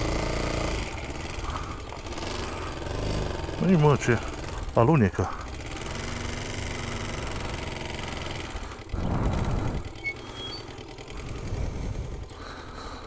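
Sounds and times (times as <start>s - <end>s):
small atv engine running: 0.0s - 13.0s.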